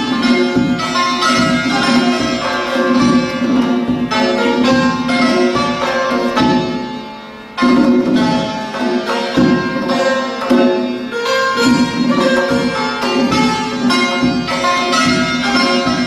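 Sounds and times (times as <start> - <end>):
hand drum strokes: 0.0 - 16.0
santur struck notes: 0.0 - 16.0.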